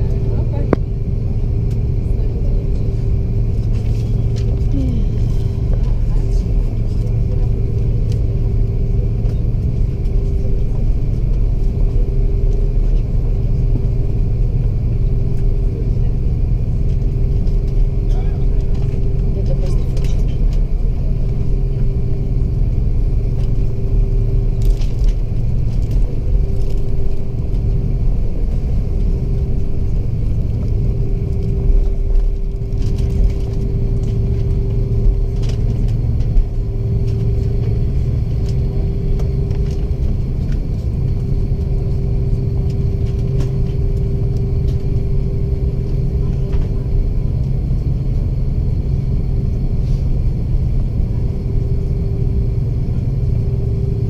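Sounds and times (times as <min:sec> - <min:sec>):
aircraft cabin engine rumble: 0:00.0 - 0:54.0
constant hum: 0:00.0 - 0:54.0.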